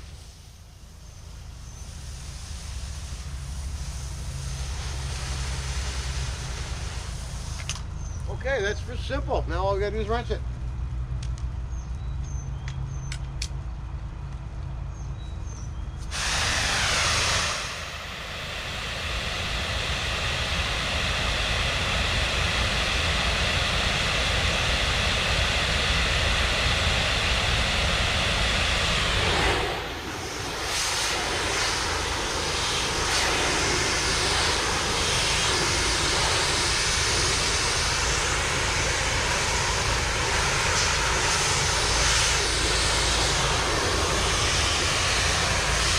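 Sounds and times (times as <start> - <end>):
high-pressure spray hissing: 0.0 - 7.8, 16.1 - 45.9
pressure washer engine running: 0.0 - 9.2, 16.1 - 45.9.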